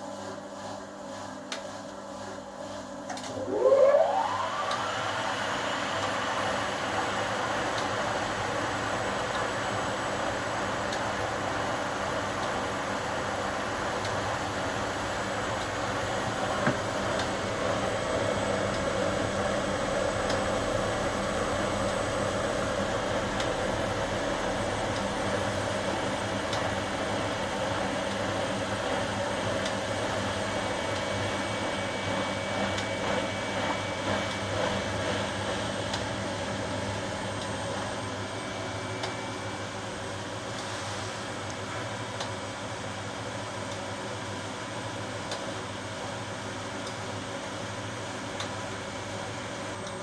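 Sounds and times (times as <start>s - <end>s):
washing machine whirring hum: 0.0s - 50.0s.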